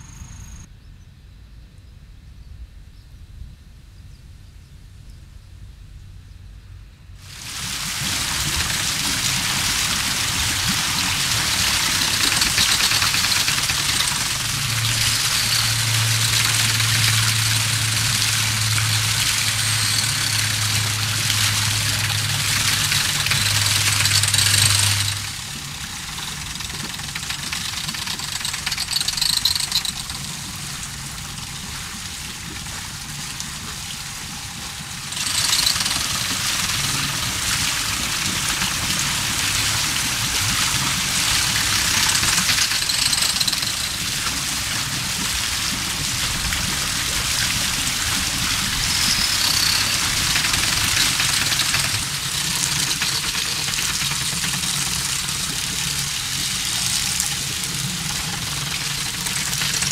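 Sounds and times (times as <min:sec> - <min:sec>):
water splashing off waterwheel: 0:07.2 - 0:59.9.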